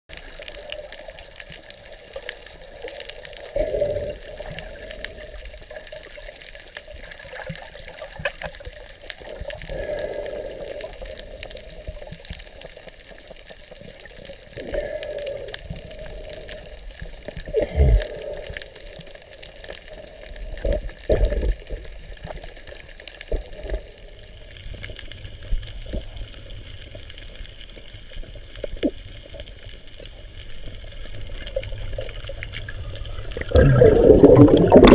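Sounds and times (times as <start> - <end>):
water gurgling: 0.1 - 34.9.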